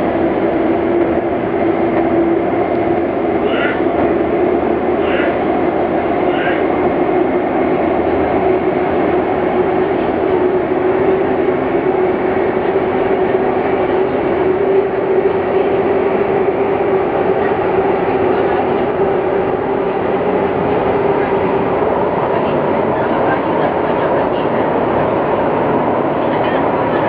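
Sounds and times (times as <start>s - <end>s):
metro train rolling rumble: 0.0s - 27.0s
constant hum: 0.1s - 27.0s.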